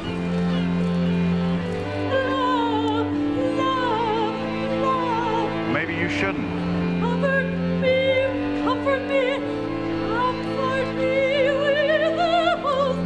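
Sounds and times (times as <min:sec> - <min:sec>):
sustained low accompanying notes: 0:00.0 - 0:12.3.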